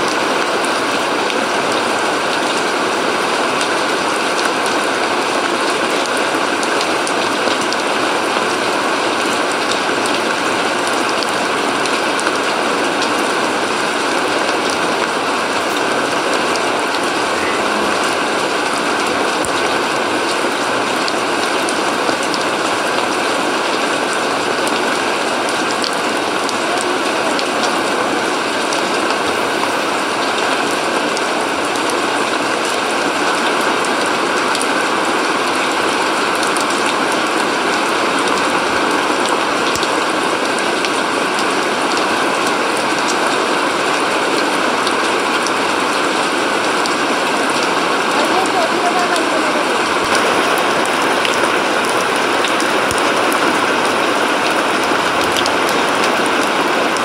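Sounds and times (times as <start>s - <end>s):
rain falling on wet ground: 0.0s - 57.0s.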